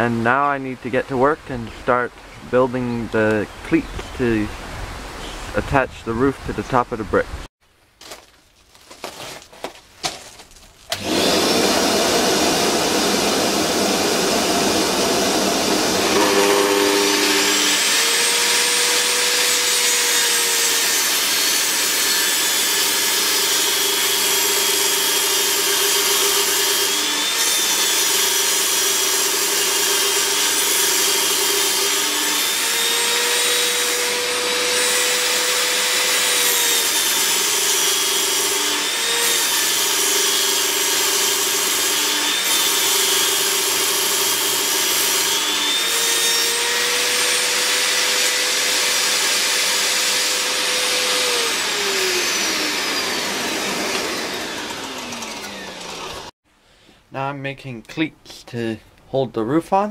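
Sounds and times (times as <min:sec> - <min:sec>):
table saw ripping wood: 0:08.0 - 0:56.3.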